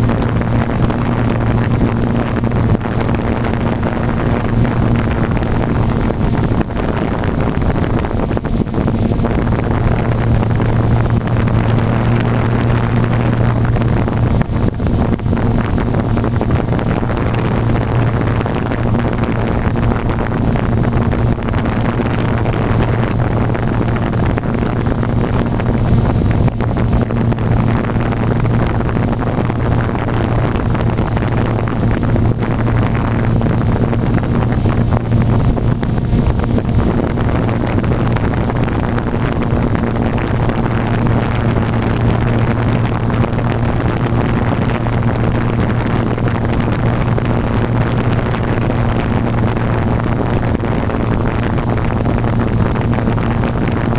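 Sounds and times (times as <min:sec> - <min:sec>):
rush of moving air: 0:00.0 - 0:53.9.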